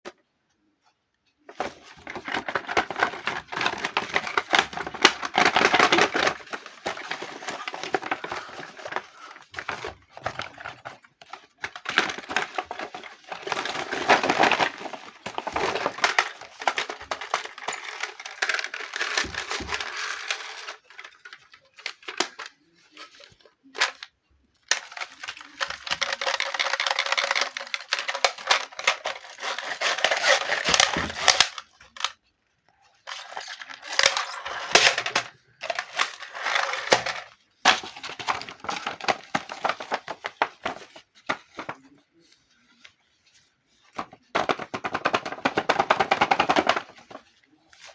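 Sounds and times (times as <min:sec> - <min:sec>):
plastic and cardboard crinkling and tearing: 0:01.5 - 0:47.9.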